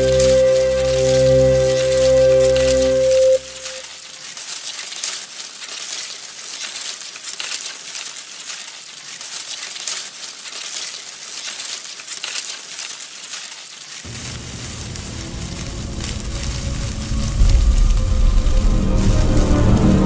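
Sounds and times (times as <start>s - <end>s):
leaves and twigs rustling: 0.0s - 20.0s.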